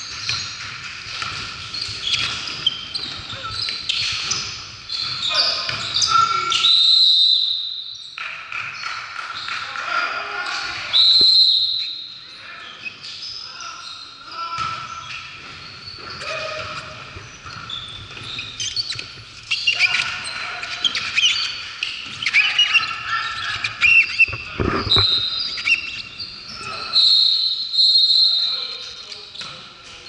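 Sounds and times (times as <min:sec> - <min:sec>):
sneakers squeaking: 0:00.0 - 0:09.7, 0:10.3 - 0:30.0
voices echoing in hall: 0:00.0 - 0:30.0.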